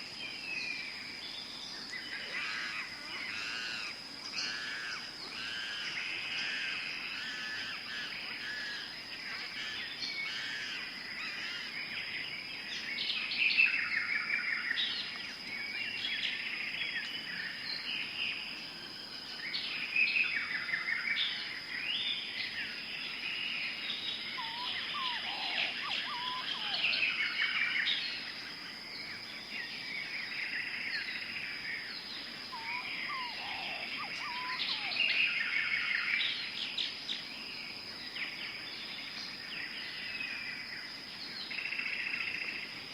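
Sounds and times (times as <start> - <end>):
birds chirping and singing: 0.0 - 18.2, 19.4 - 42.7.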